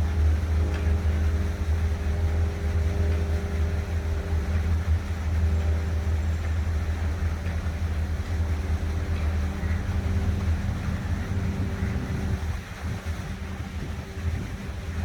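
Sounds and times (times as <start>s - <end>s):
distant construction machinery hum: 0.0s - 15.0s
low city rumble: 0.0s - 15.0s
water fountains hissing: 0.0s - 15.0s.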